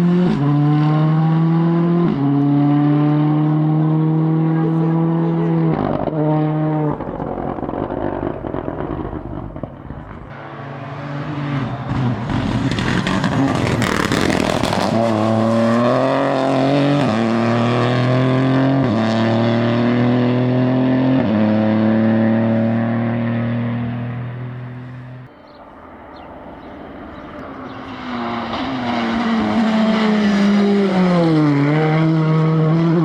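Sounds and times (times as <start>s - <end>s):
rally car passing at full throttle: 0.0s - 33.0s.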